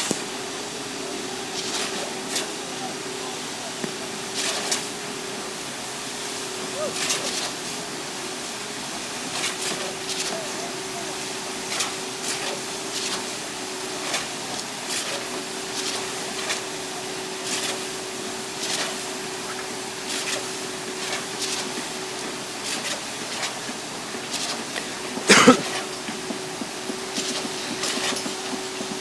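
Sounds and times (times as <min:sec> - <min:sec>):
machinery humming: 0:00.0 - 0:29.0.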